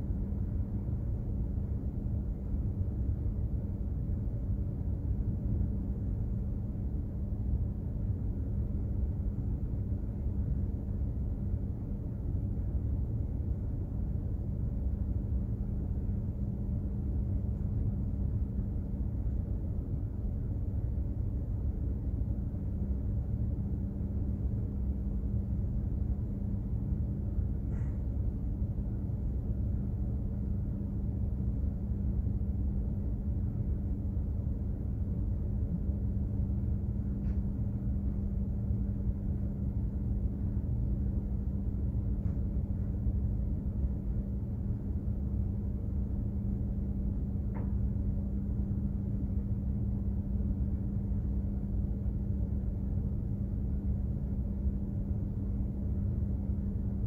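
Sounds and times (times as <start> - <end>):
ship engine rumble and drone: 0.0 - 57.0.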